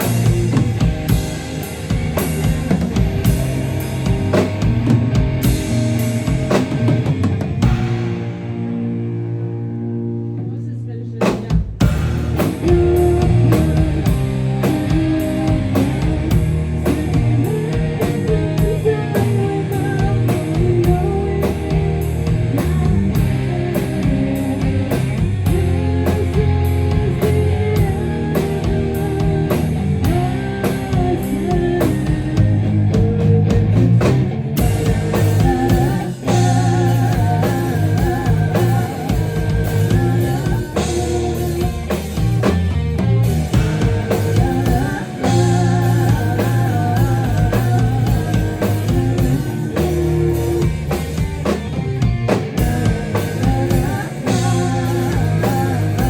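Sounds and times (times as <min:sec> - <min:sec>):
drum kit beat: 0:00.0 - 0:09.4, 0:11.2 - 0:56.0
live band playing: 0:00.0 - 0:10.1, 0:11.2 - 0:56.0
guitar: 0:00.0 - 0:56.0.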